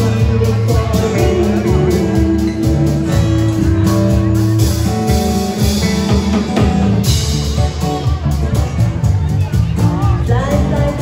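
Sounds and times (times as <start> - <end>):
acoustic guitar: 0.0 - 11.0
bass guitar: 0.0 - 11.0.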